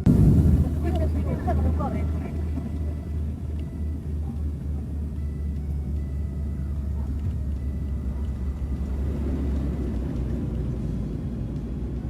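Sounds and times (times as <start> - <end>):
plane cabin low rumble: 0.0 - 12.0.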